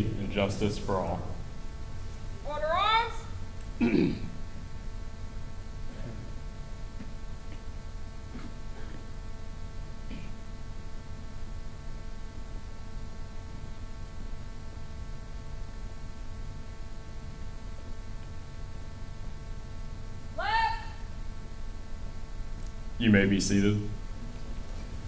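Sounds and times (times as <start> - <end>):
electrical hum: 0.0 - 25.0
low room rumble: 0.0 - 25.0.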